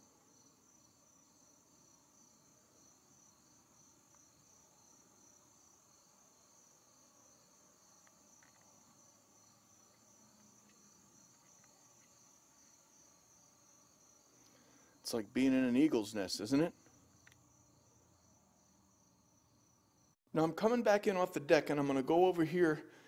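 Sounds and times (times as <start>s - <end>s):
insects trilling: 0.0s - 20.2s.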